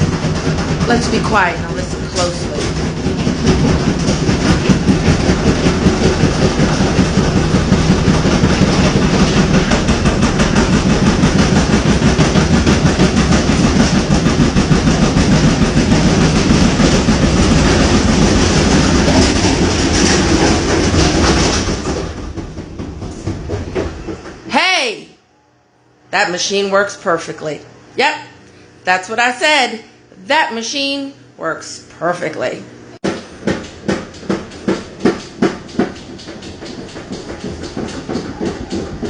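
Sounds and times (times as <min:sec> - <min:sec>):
washing machine spinning and rattling: 0:00.0 - 0:25.1, 0:26.2 - 0:39.0.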